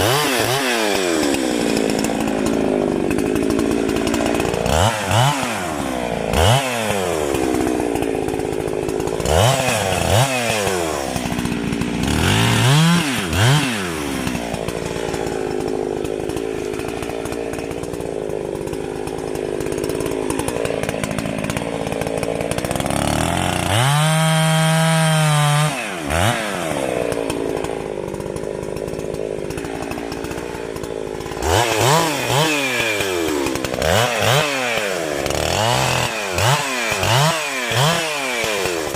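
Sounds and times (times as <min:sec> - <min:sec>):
two-stroke chainsaw revving: 0:00.0 - 0:38.9.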